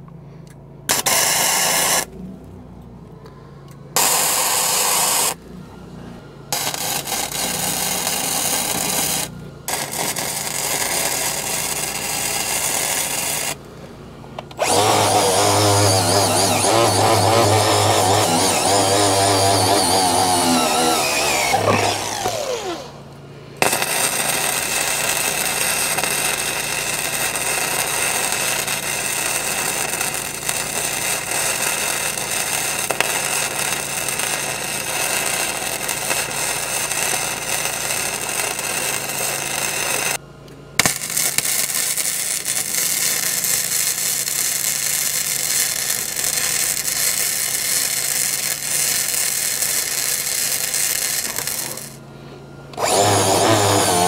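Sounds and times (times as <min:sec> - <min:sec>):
welding arc crackle and sizzle: 0:00.9 - 0:02.2, 0:04.0 - 0:05.4, 0:06.5 - 0:13.6, 0:14.5 - 0:23.0, 0:23.6 - 0:40.2, 0:40.8 - 0:52.0, 0:52.8 - 0:54.0
angle grinder spinning down: 0:06.6 - 0:13.6, 0:14.5 - 0:23.0, 0:23.6 - 0:40.2, 0:40.8 - 0:52.0, 0:52.8 - 0:54.0.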